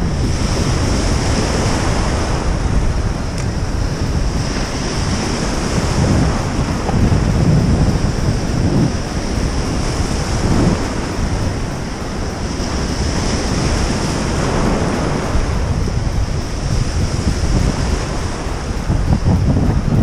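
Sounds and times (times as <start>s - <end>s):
small waves breaking on beach: 0.0s - 20.0s
wind buffeting microphone: 0.0s - 20.0s.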